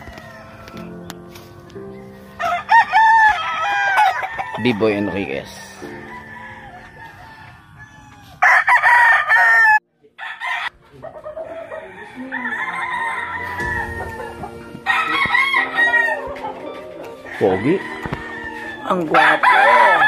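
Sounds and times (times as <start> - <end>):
roosters crowing: 0.0 - 1.1, 1.9 - 20.0.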